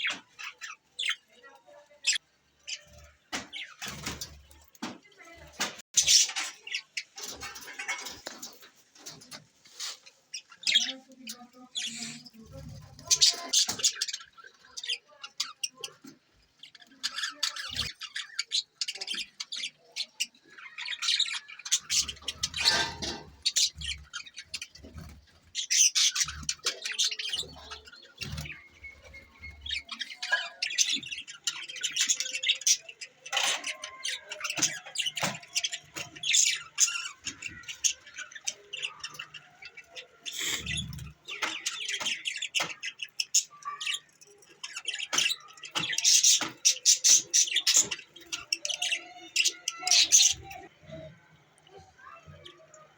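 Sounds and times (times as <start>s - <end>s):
budgerigars chirping and squawking: 0.0s - 52.9s.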